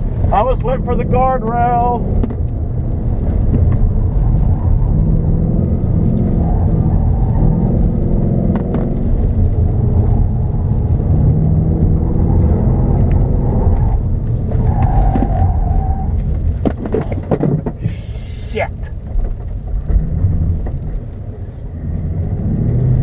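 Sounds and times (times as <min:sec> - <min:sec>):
car engine running from inside: 0:00.0 - 0:23.0.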